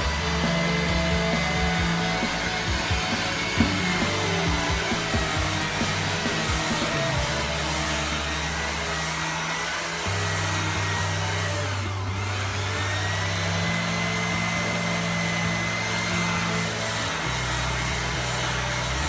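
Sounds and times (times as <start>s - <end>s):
background music with bass: 0.0s - 19.0s
whirring motor with high whine: 0.0s - 19.0s.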